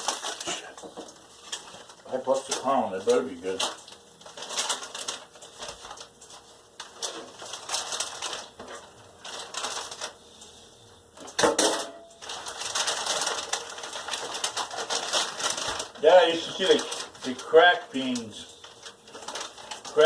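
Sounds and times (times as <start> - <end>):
kitchen rustling and clatter: 0.0 - 20.0.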